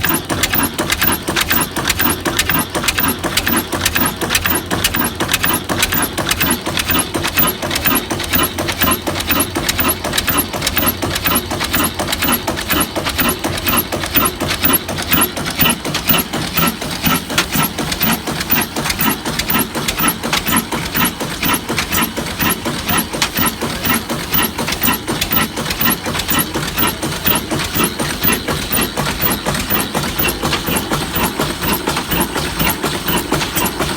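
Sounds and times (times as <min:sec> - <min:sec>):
diesel engine clattering: 0:00.0 - 0:33.9.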